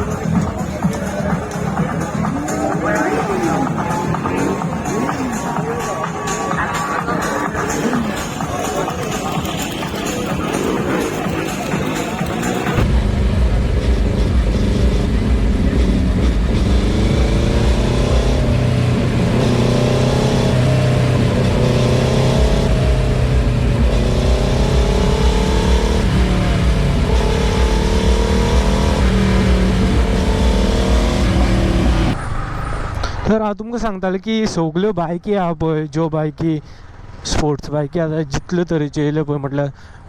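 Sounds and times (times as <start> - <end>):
motorcycle engines revving: 0.0 - 33.3.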